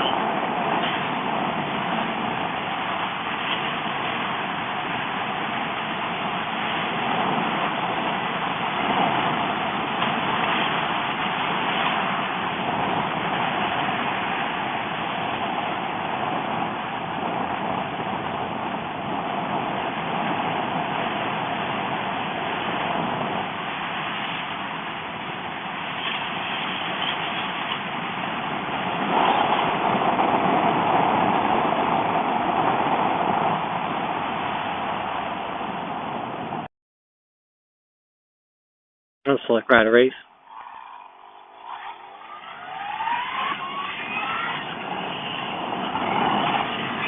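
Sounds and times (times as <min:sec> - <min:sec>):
motorcycle riding wind rush: 0:00.0 - 0:36.7, 0:39.9 - 0:47.0.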